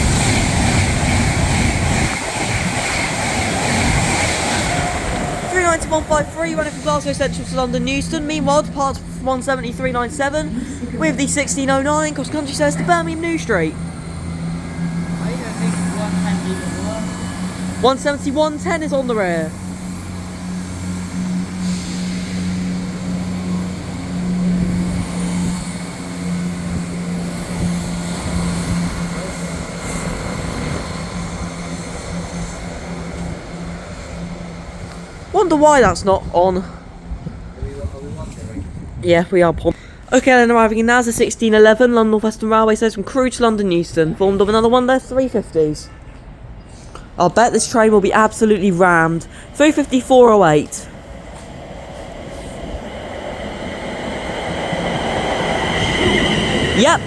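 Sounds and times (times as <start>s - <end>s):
electric train passing at speed: 0.0s - 57.0s.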